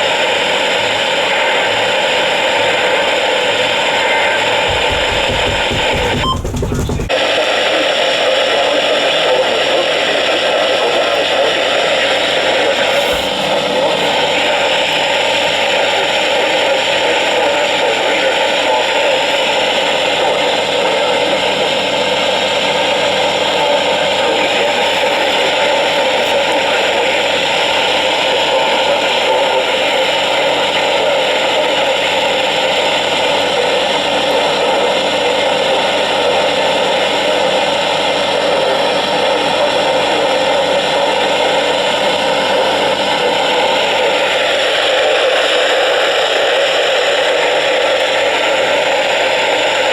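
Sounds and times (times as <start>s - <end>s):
radio static hiss: 7.7s - 49.9s.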